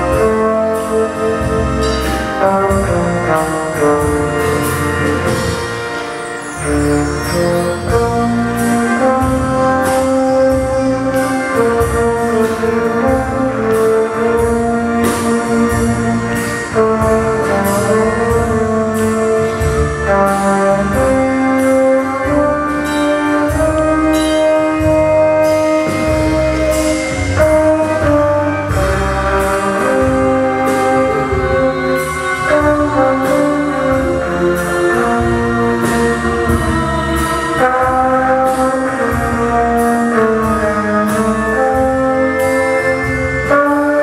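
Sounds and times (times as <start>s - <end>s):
backing band with bass and beat: 0.0s - 44.0s
trombone melody: 0.0s - 44.0s.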